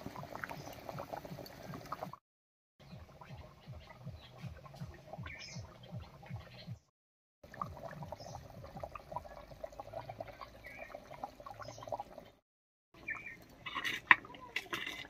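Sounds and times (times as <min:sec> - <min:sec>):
gravy bubbling at a simmer: 0:00.0 - 0:02.2, 0:02.8 - 0:06.7, 0:07.4 - 0:12.4, 0:13.0 - 0:15.0.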